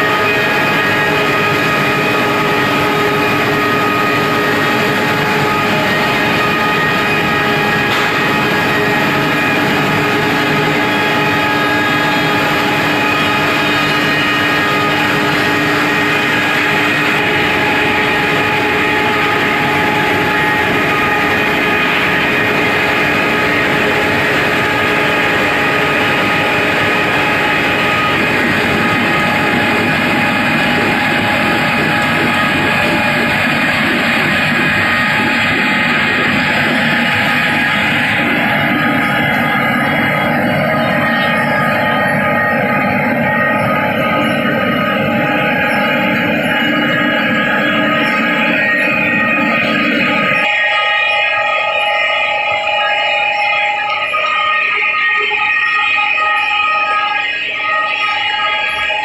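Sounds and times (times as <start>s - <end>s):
industrial machinery running: 0.0s - 59.0s.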